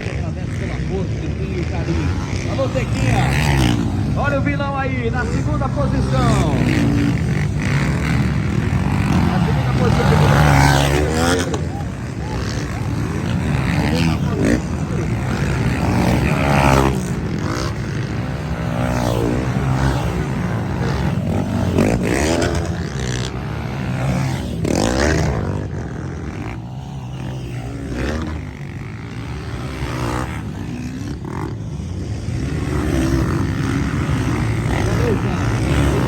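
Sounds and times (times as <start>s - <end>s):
constant rumble: 0.0s - 36.0s
motocross engines revving: 0.0s - 36.0s.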